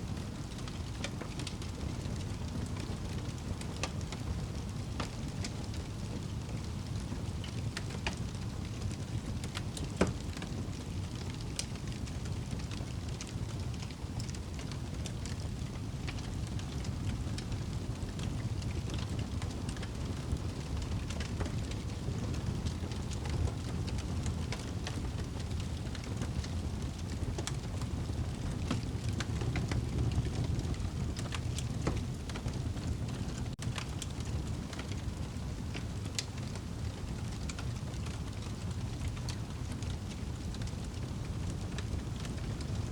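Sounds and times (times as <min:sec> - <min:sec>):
fire crackling and popping: 0:00.1 - 0:42.9.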